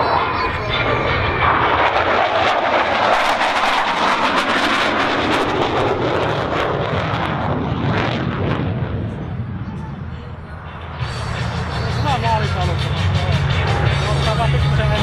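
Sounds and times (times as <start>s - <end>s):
loud jet noise: 0.0s - 15.0s.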